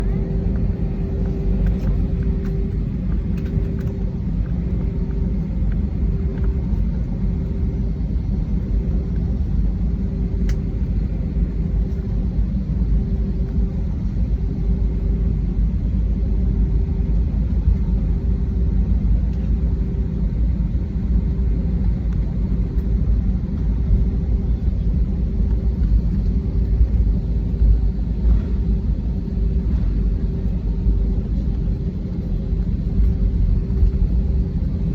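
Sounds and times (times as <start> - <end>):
jet engines rumbling: 0.0 - 34.9
pulsing faint hum: 0.0 - 34.9.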